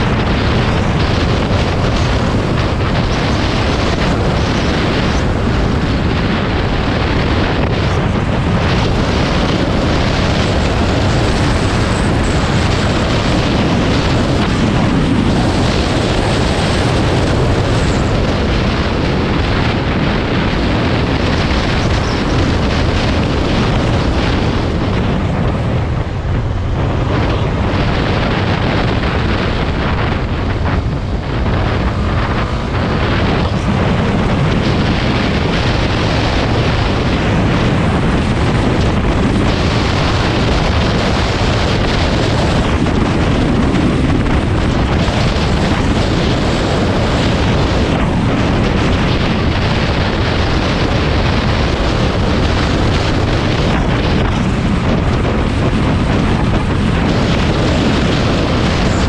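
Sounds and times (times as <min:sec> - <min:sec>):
dirt bike engine running: 0:00.0 - 0:59.0
wind on microphone: 0:00.0 - 0:59.0.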